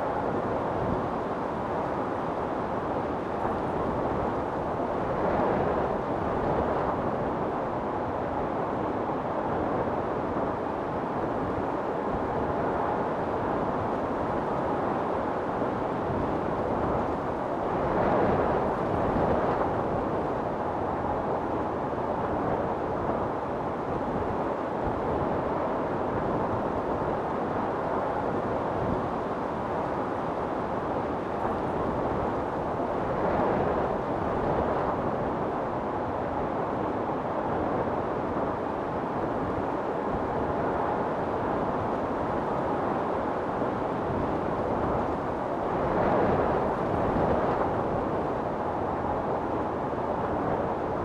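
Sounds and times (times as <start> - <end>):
strong wind blowing: 0.0 - 51.0.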